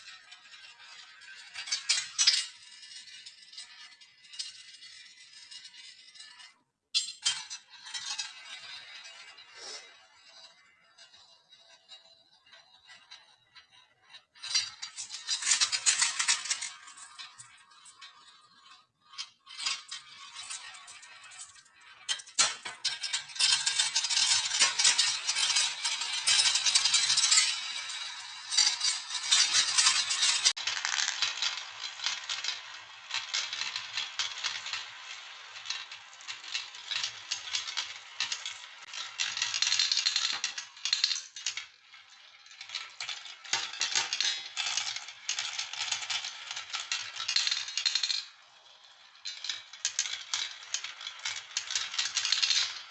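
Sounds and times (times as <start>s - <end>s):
marbles rolling and clattering: 0.0s - 52.9s.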